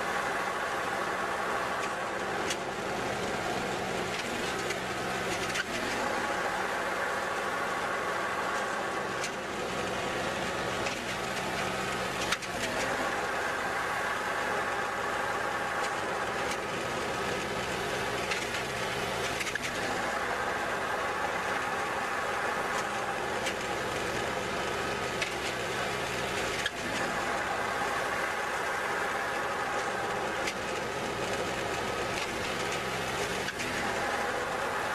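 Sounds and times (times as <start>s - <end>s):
baler engine running: 0.0s - 34.9s.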